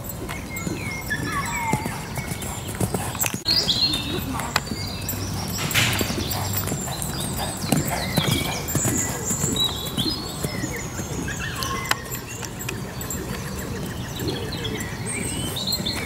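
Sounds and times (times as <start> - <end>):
horse hoofbeats cantering on turf: 0.0 - 16.0.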